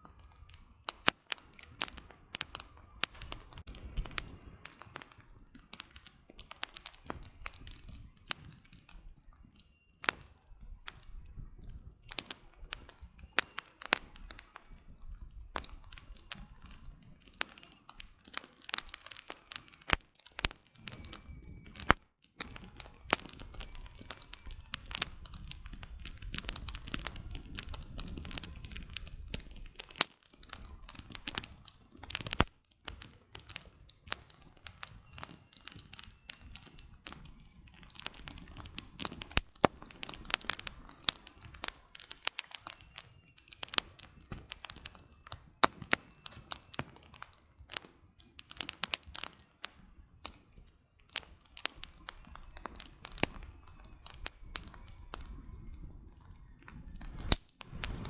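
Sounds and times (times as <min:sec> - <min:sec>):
campfire crackling and popping: 0:00.0 - 0:58.0
low rumble of flame: 0:00.0 - 0:58.0.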